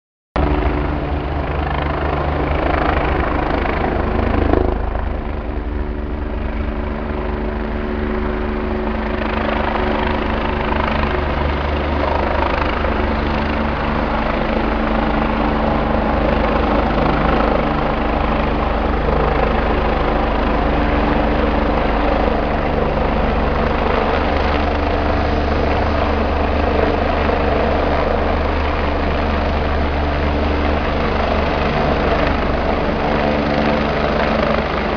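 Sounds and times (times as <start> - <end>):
helicopter rotor throb: 0.4 - 34.9.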